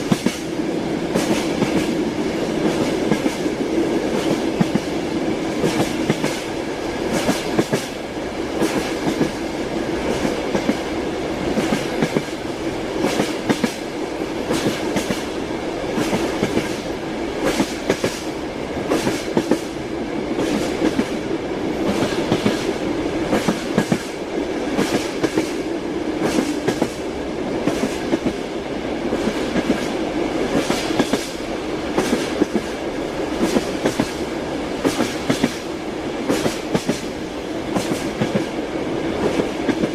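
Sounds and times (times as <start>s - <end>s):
train wheels clattering: 0.0s - 5.0s, 5.6s - 9.4s, 10.0s - 12.4s, 13.0s - 15.3s, 15.9s - 21.2s, 21.8s - 28.5s, 29.1s - 38.6s
running rumble of train: 0.0s - 39.9s.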